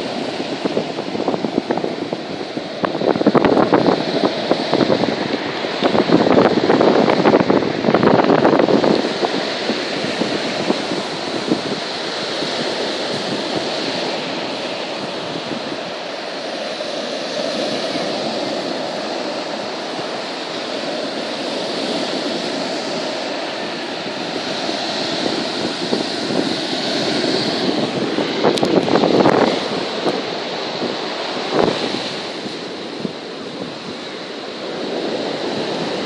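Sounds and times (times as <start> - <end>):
waves breaking: 0.0 - 36.0
wind buffeting microphone: 0.0 - 36.0.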